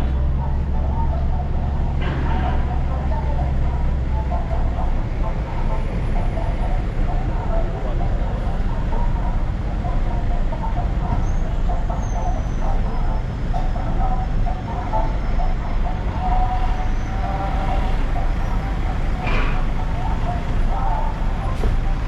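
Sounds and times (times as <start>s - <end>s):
vehicle rumble from inside: 0.0s - 22.0s
wavering engine drone: 0.0s - 22.0s.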